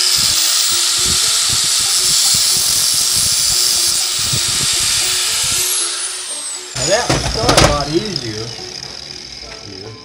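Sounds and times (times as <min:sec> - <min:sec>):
angle grinder grinding metal: 0:00.0 - 0:10.0.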